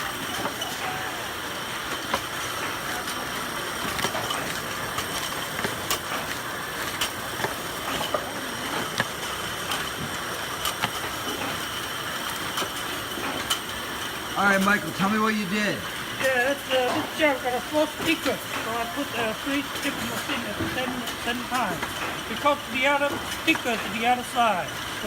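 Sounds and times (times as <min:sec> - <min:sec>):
machine mechanical hum: 0:00.0 - 0:25.0.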